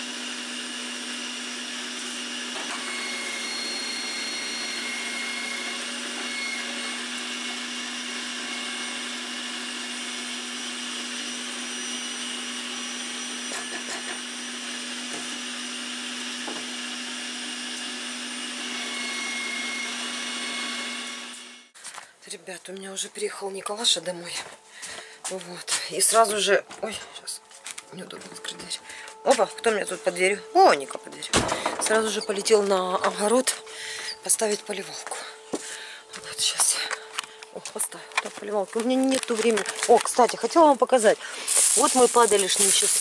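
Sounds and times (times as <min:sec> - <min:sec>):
vegetable shredder motor grating: 0:00.0 - 0:21.8, 0:27.0 - 0:43.0.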